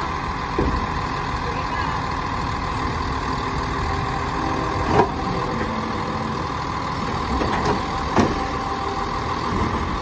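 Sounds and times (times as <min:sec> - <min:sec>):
garbage truck running: 0:00.0 - 0:10.0.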